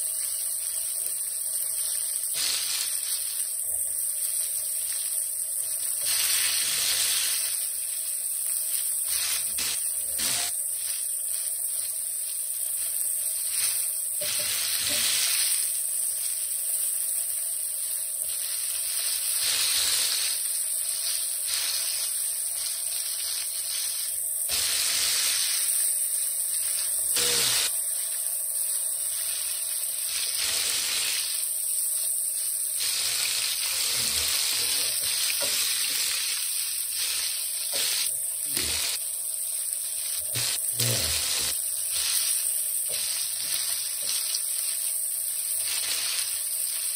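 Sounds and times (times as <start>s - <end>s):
fish sizzling in a skillet: 0.0s - 46.9s.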